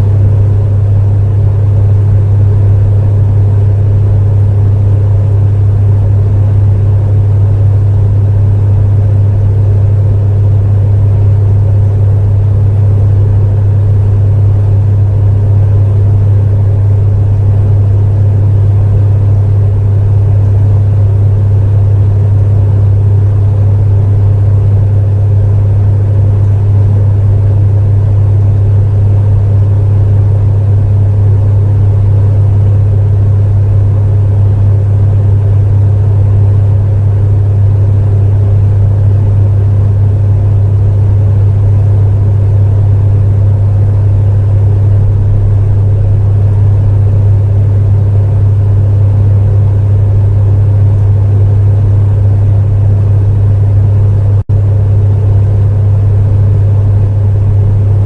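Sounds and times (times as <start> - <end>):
faint fan whir: 0.0 - 58.0
space heater humming: 0.0 - 58.0.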